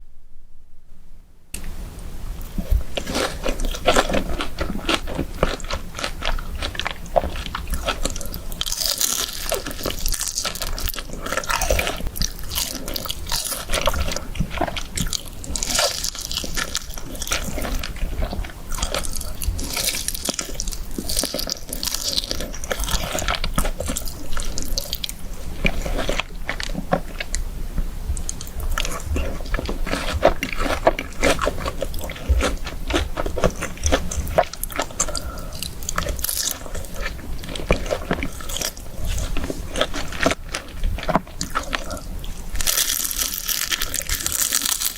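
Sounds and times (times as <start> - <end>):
wet chewing: 1.6 - 44.9
crunching bites of fried chicken: 2.6 - 27.4, 28.2 - 44.9.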